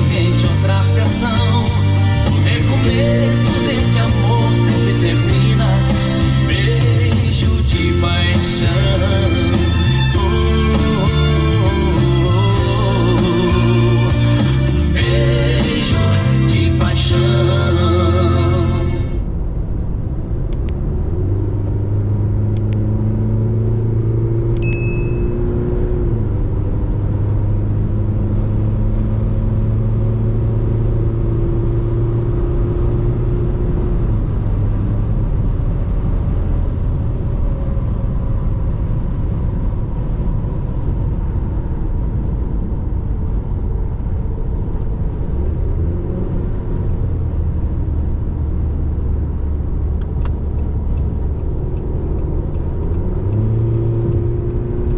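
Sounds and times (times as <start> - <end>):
diesel engine drone: 0.0 - 54.9
road noise: 0.0 - 54.9.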